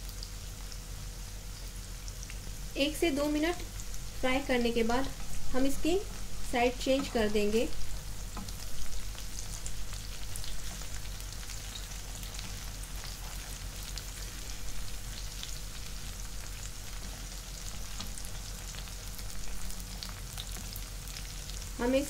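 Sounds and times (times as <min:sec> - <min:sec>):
okra sizzling in hot oil: 0:00.0 - 0:22.0.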